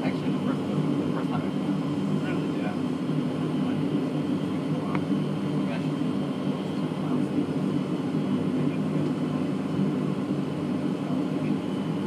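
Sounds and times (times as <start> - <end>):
faint high whine: 0.0 - 12.0
jet engine hum and air rush: 0.0 - 12.0.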